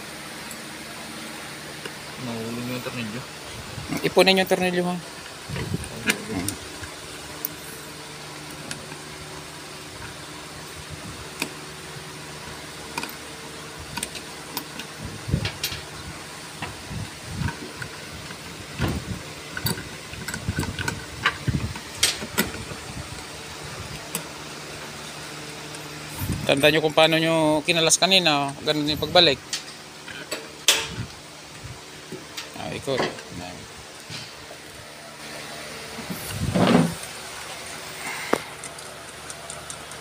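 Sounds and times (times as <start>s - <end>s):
steady machine hum: 0.0s - 40.0s.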